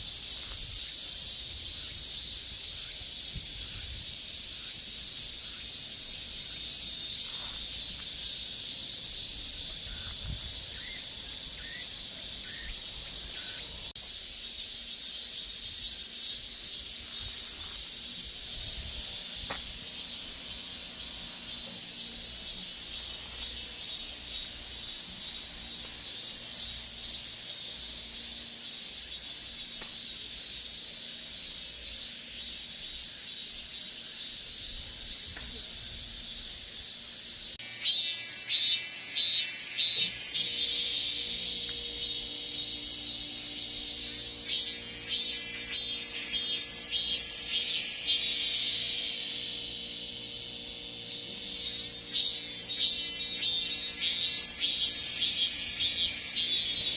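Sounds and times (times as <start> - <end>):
cicadas buzzing in chorus: 0.0 - 56.9.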